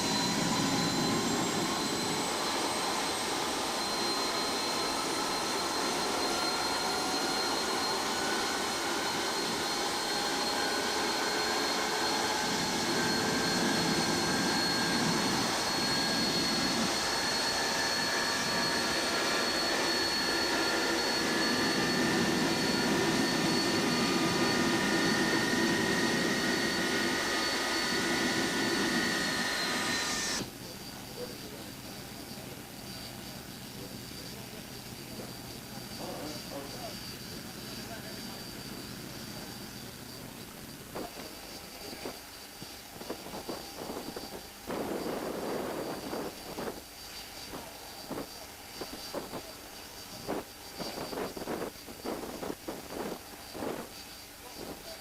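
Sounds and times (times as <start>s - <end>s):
jet engine whining spooling up: 0.0s - 55.0s.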